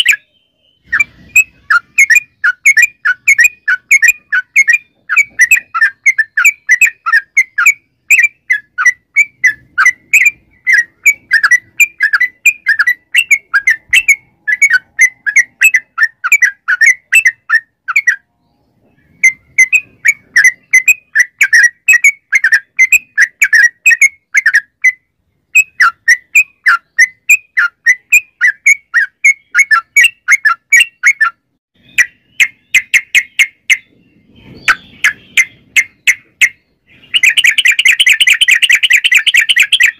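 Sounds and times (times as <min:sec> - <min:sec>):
bird singing rapid chattering notes: 0:00.0 - 0:39.9.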